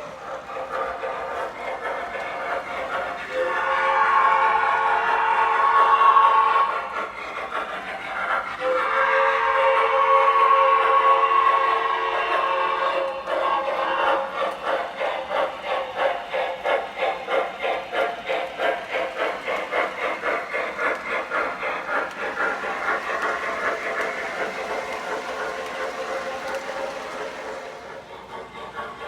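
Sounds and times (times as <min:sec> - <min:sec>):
steam hiss: 0:00.0 - 0:29.0
steam locomotive chuffing: 0:00.0 - 0:29.0.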